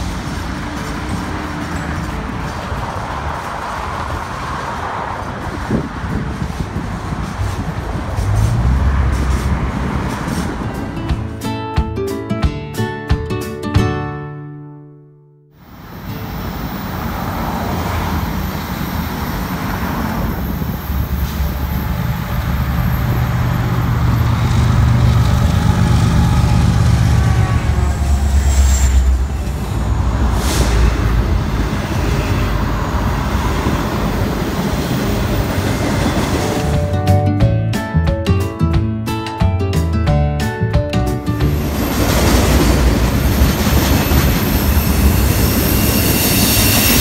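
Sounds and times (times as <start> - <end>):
diesel locomotive engine drone: 0.0 - 11.4, 15.6 - 37.9, 40.5 - 47.0
freight cars rolling over rails: 0.0 - 11.4, 15.6 - 37.2, 41.2 - 47.0.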